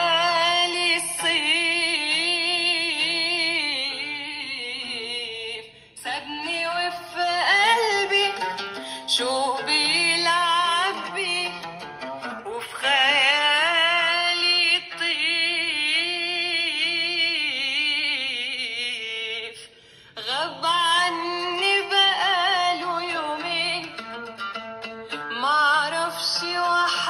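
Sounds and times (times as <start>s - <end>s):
woman singing over loudspeaker: 0.0s - 11.8s, 12.4s - 24.0s, 25.3s - 27.0s.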